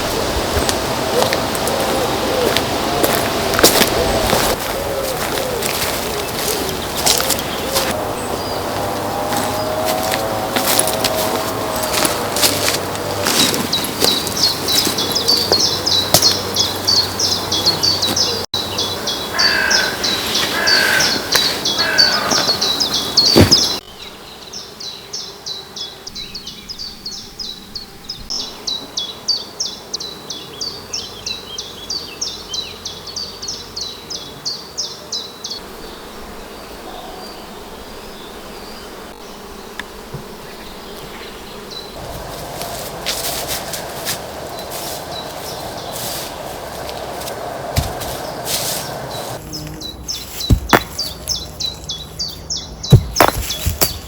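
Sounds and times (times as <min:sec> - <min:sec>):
bird calls: 0:00.0 - 0:54.0.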